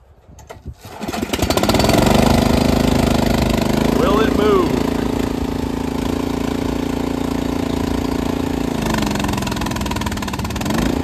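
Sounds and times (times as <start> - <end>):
small gas engine running pump: 0.8 - 11.0.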